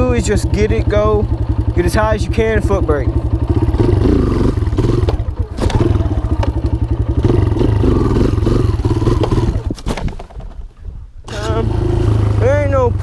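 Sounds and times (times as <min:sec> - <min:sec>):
dirt bike engine revving: 0:00.0 - 0:09.8, 0:11.3 - 0:13.0.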